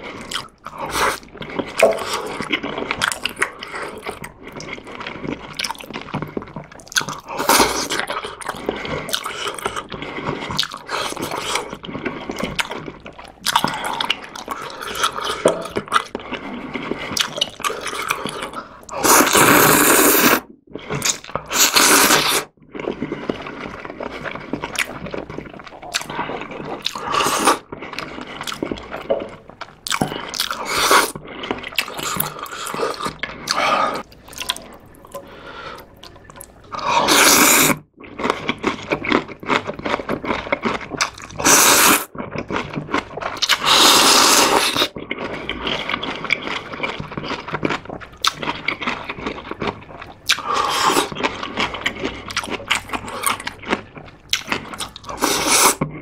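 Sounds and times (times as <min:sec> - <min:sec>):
slurping noodles: 0:00.0 - 0:56.0
wet chewing: 0:00.0 - 0:56.0.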